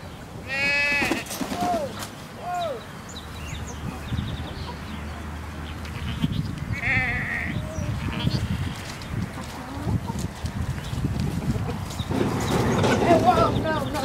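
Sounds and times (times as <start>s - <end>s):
farm animals calling: 0.0s - 14.0s.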